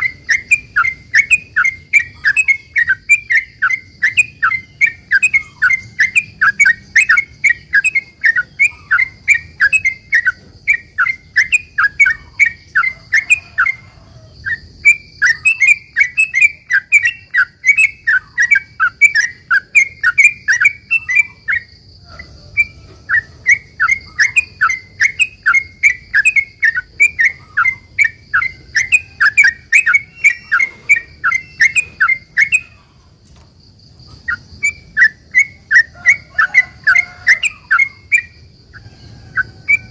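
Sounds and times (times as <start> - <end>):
bird singing rapid chirps: 0.0 - 33.2, 33.9 - 39.9.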